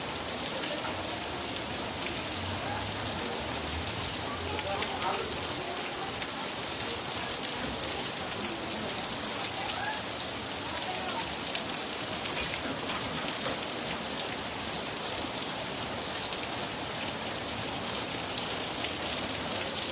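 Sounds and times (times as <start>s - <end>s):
heavy rain falling: 0.0s - 19.9s.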